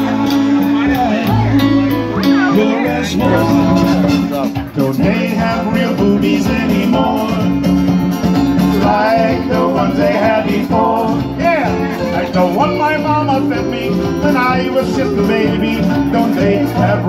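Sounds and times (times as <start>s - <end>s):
person singing: 0.0s - 7.8s, 8.7s - 17.0s
acoustic guitar: 0.0s - 17.0s
congas: 0.0s - 17.0s
keyboard: 0.0s - 17.0s.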